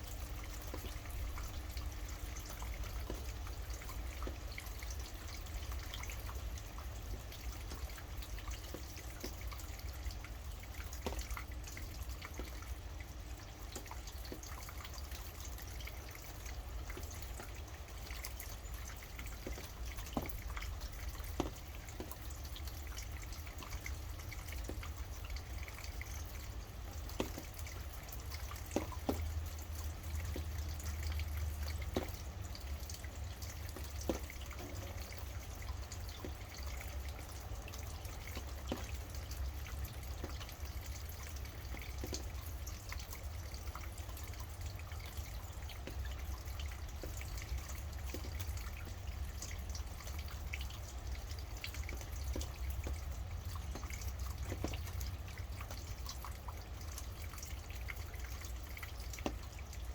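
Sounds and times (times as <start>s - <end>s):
rain drops dripping: 0.0s - 59.9s.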